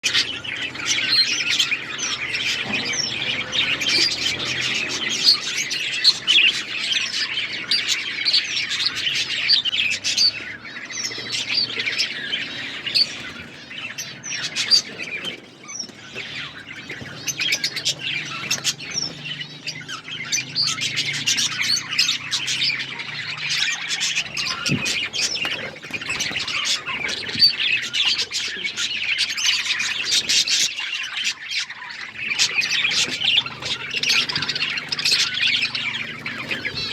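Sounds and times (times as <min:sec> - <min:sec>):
budgerigars chirping: 0:00.0 - 0:36.9.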